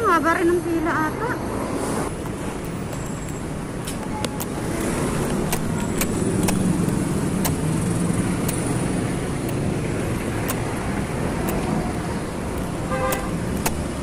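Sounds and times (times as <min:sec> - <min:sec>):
road traffic hum: 0:00.0 - 0:14.0
sharp clicks: 0:02.2 - 0:14.0.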